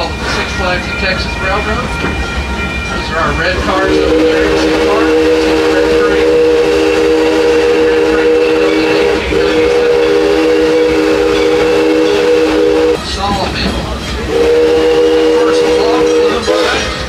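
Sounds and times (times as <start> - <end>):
steam locomotive chime whistle: 0.0 - 17.0.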